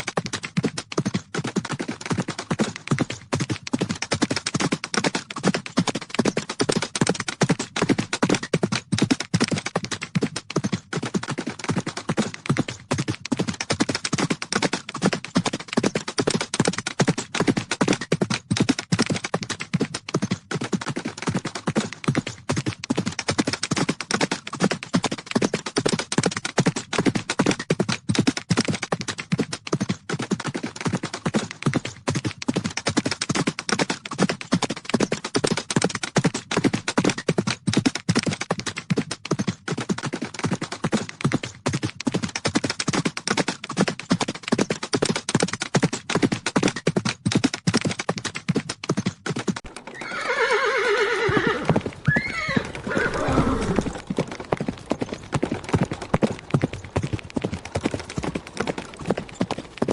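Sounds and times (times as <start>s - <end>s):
horse hooves galloping: 0.0s - 59.9s.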